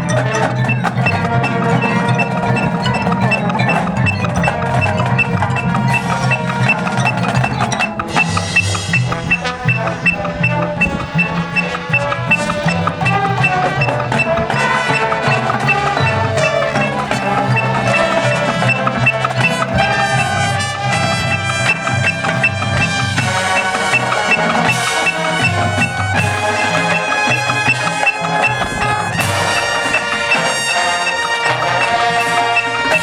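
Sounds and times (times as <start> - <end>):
marching band playing: 0.0 - 33.0.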